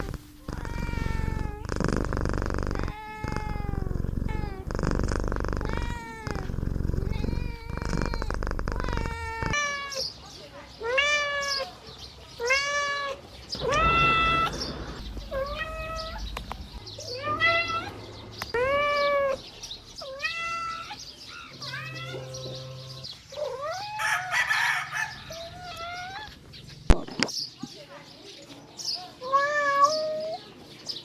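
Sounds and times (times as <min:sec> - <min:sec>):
kitten meowing: 0:00.0 - 0:04.8, 0:05.4 - 0:10.1, 0:10.8 - 0:11.7, 0:12.4 - 0:27.0, 0:29.2 - 0:30.4.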